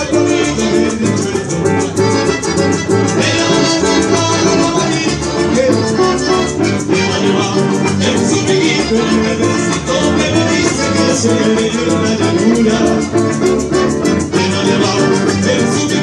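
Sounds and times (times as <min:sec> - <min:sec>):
accordion melody: 0:00.0 - 0:16.0
electric bass guitar: 0:00.0 - 0:16.0
guitar: 0:00.0 - 0:16.0.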